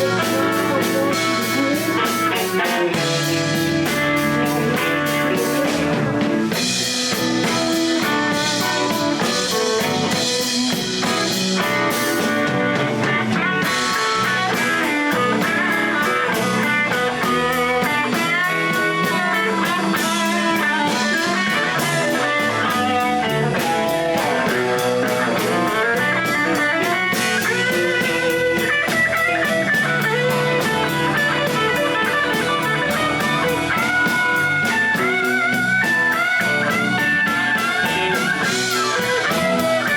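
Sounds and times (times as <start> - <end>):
blues guitar lead: 0.0 - 39.9
drum kit: 0.0 - 39.9.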